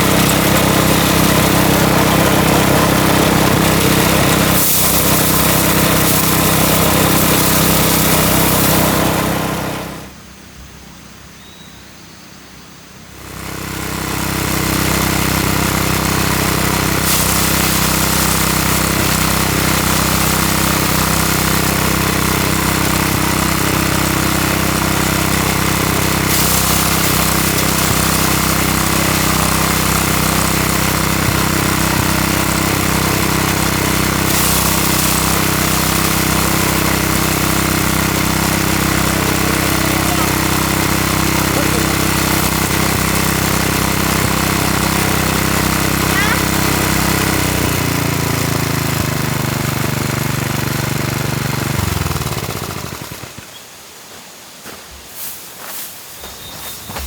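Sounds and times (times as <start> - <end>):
threshing machine motor running: 0.0 - 10.2, 13.1 - 53.6, 55.6 - 57.0.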